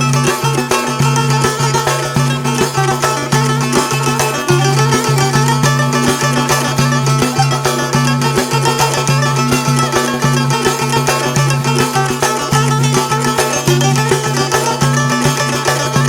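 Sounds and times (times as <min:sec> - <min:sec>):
folk dance tune on plucked strings: 0:00.0 - 0:16.0.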